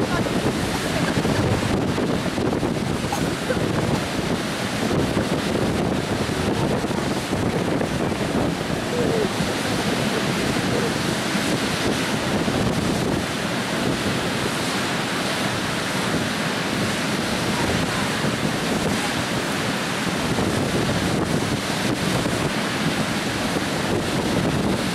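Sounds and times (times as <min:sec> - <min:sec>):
water rushing over weir: 0:00.0 - 0:24.9.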